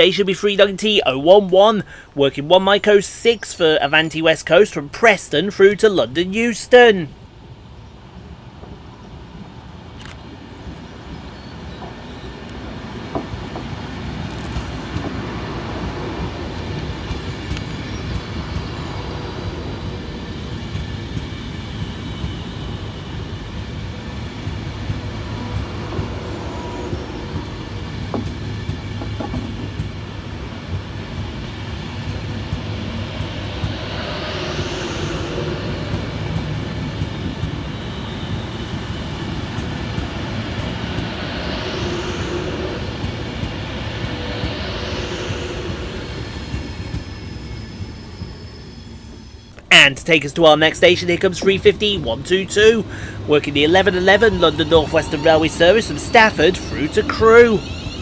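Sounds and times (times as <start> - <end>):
electric train passing slowly: 0.0 - 58.0
wheels clicking at rail joints: 8.6 - 49.7, 50.6 - 58.0.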